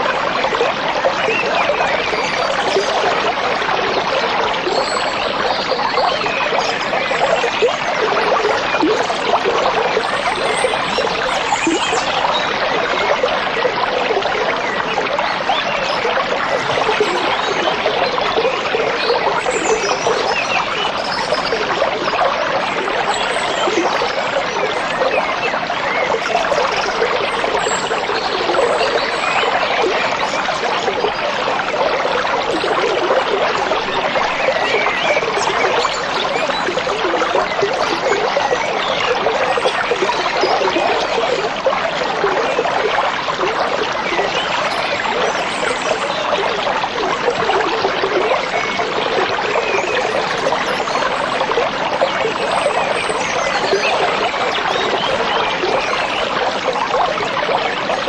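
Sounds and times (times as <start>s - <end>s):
stream water trickling and splashing: 0.0s - 58.0s.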